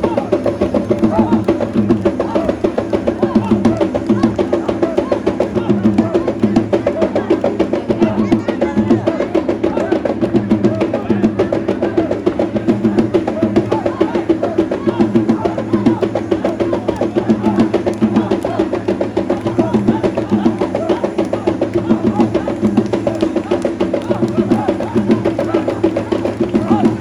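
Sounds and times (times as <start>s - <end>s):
fast drumming: 0.0s - 27.0s.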